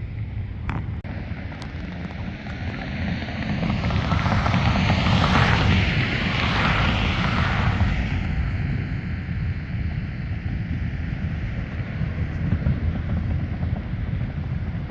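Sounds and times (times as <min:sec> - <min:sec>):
propeller airplane engine: 0:00.0 - 0:14.9
wind rumbling on microphone: 0:00.0 - 0:14.9.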